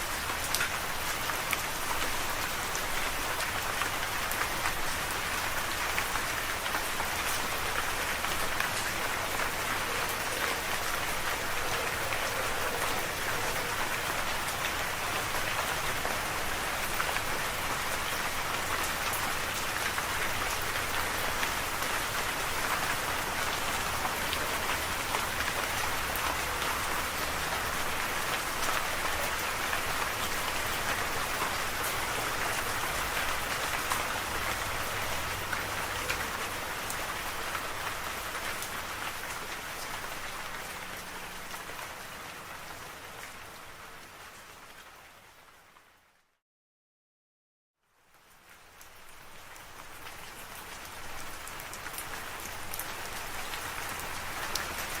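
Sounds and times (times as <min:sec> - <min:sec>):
steady rain falling: 0:00.0 - 0:46.3, 0:47.8 - 0:55.0.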